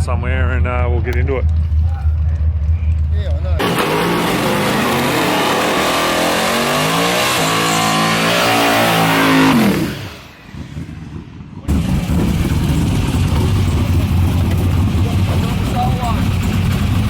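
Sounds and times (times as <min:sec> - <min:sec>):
drag car engine accelerating: 0:00.0 - 0:17.0
loud low engine rumble: 0:00.0 - 0:17.0.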